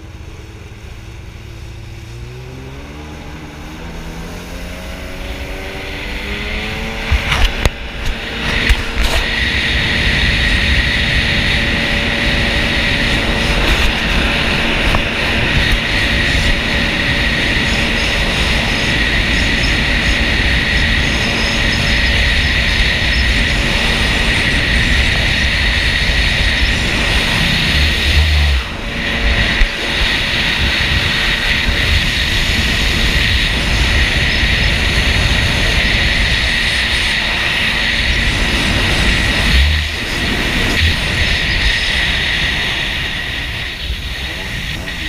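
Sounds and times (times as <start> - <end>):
jet ski engine whining: 0.0 - 45.0.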